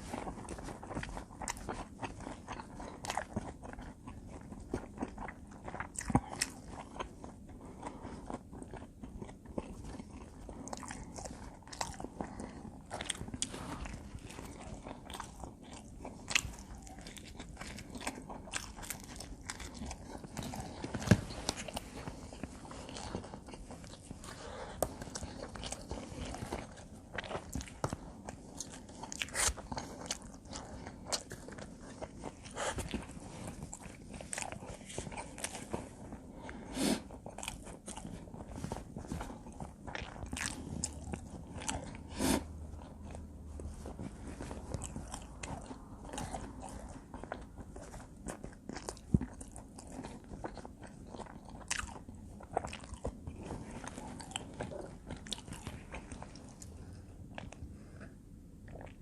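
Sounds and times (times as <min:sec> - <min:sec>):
person chewing pizza crunchily: 0:00.0 - 0:59.0.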